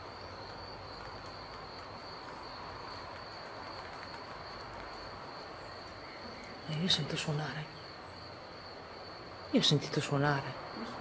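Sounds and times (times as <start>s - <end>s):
crickets trilling: 0.0s - 11.0s
faint background hiss: 0.0s - 11.0s.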